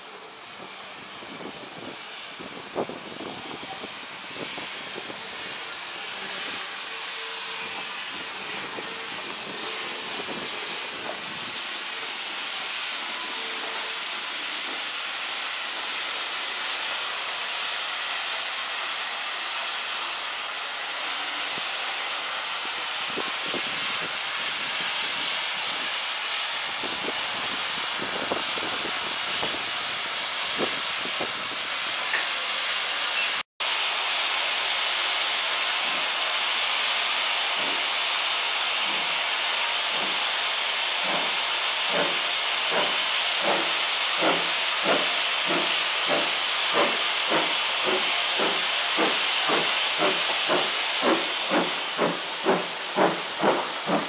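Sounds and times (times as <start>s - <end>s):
steam locomotive exhaust chuffs: 0.0s - 54.0s
steam locomotive hissing: 0.0s - 54.0s.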